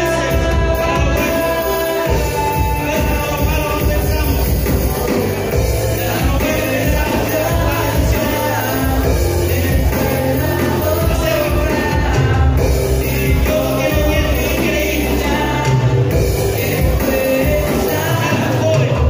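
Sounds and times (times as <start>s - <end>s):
band with low bass notes: 0.0s - 19.0s
man singing into a microphone: 0.0s - 19.0s.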